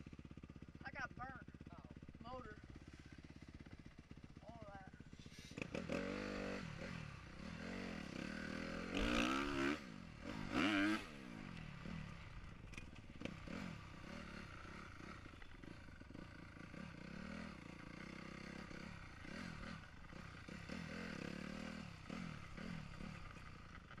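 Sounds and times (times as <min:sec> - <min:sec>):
dirt bike engine revving: 0:00.2 - 0:24.0.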